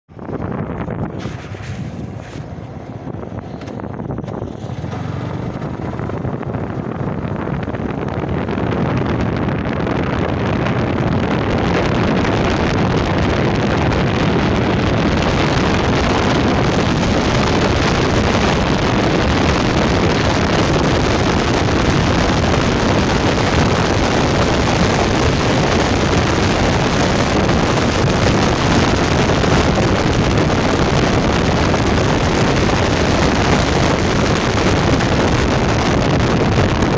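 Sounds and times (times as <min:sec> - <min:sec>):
road noise: 0:00.0 - 0:36.9
motorcycle engine: 0:00.1 - 0:36.9
wind buffeting microphone: 0:00.1 - 0:36.9.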